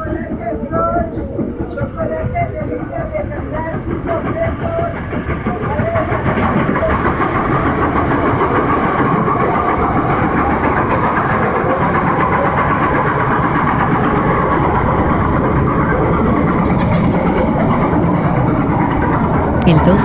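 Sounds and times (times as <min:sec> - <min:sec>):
metro train rumbling from inside: 0:00.0 - 0:20.0.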